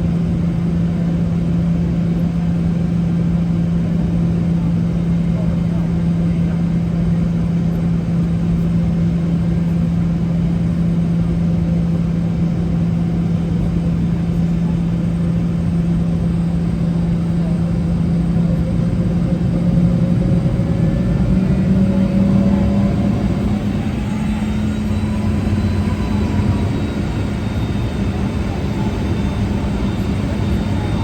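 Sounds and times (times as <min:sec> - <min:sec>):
jet engines humming in cabin: 0:00.0 - 0:31.0.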